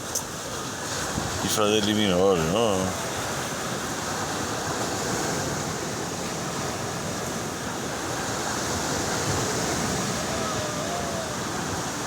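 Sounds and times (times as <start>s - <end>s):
strong wind: 0.0s - 12.0s
waves and surf rushing: 0.0s - 12.0s.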